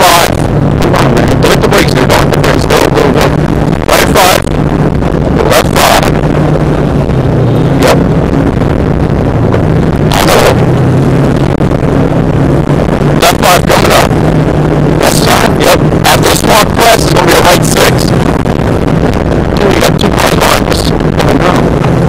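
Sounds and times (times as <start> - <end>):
car engine running hard: 0.0 - 22.0.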